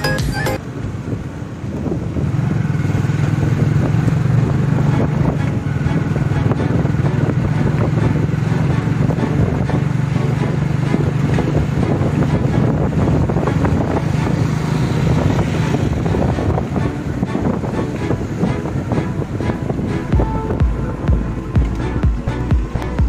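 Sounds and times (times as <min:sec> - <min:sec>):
motorcycle engine running: 0:02.0 - 0:18.1, 0:20.0 - 0:23.0.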